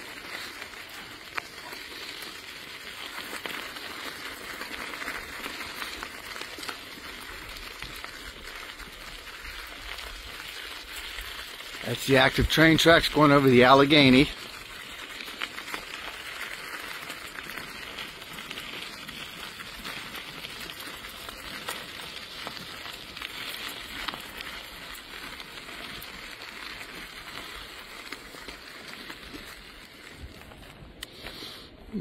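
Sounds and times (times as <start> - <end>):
bicycle tyres on gravel: 0.0 - 32.0.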